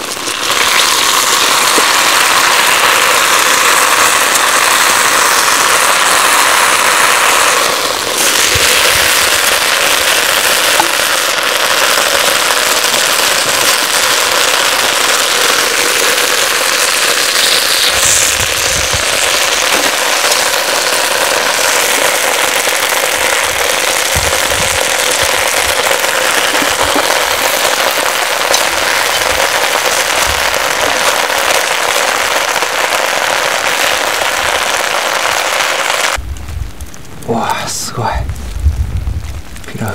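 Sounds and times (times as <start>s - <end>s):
chicken sizzling in a pot: 0.0s - 36.2s.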